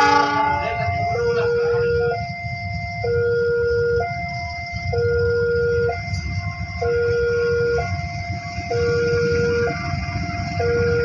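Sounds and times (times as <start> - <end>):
steady low rumble: 0.0 - 11.0
two-tone electronic alarm: 0.0 - 11.0.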